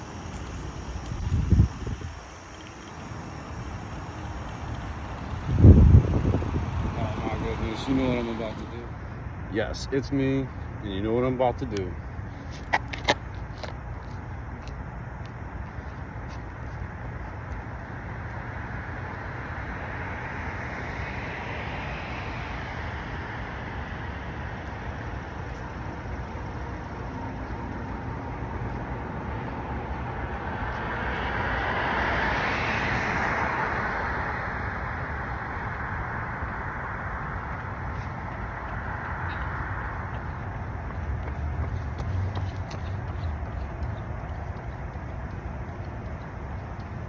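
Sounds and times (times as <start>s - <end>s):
cars passing by: 0.0s - 47.0s
road traffic noise: 0.0s - 47.0s.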